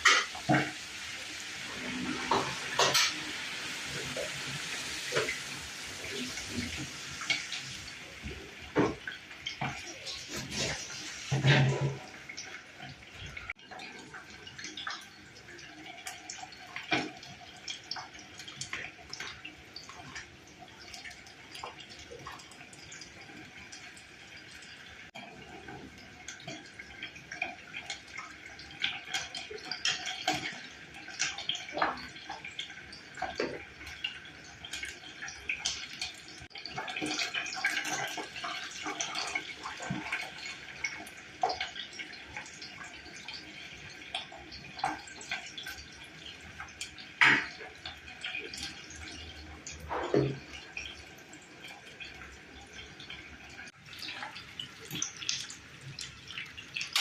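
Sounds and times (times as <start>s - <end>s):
water splashing and dripping: 0.0s - 57.0s.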